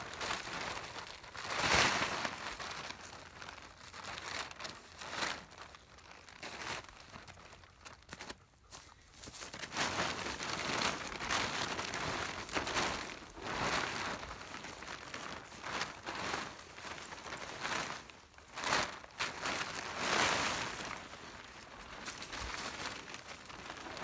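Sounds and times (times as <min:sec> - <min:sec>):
plastic tarp crinkling: 0:00.0 - 0:24.0.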